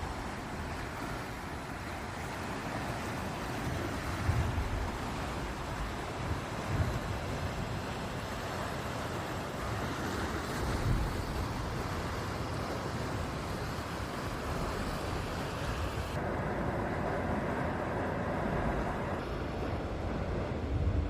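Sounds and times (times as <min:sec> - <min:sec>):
sea surf on a beach: 0:00.0 - 0:21.0
wind rumbling on microphone: 0:00.0 - 0:21.0.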